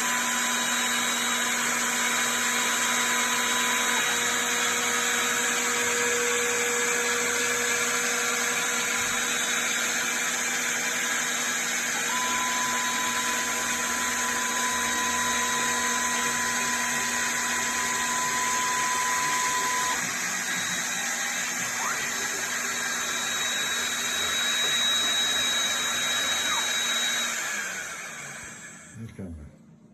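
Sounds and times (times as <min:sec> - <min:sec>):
router spindle motor whine: 0:00.0 - 0:29.0.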